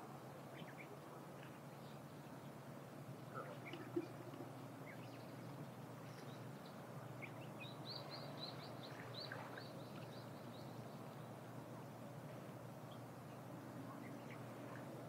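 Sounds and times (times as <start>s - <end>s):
outdoor background hum: 0.0s - 15.0s
small birds chirping: 0.5s - 2.6s, 3.3s - 12.0s, 12.8s - 14.9s.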